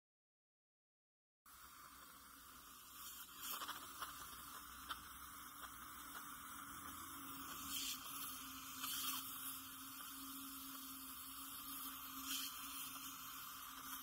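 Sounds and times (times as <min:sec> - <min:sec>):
dental suction hissing: 0:01.5 - 0:14.0.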